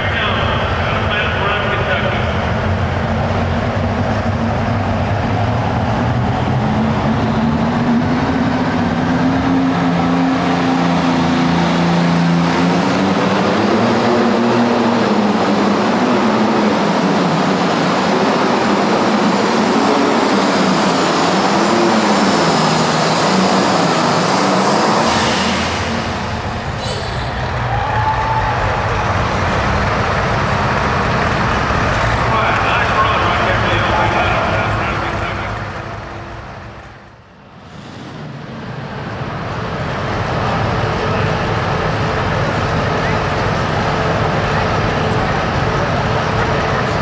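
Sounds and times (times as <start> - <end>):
tractor engine at full power: 0.0 - 27.7, 28.4 - 47.0.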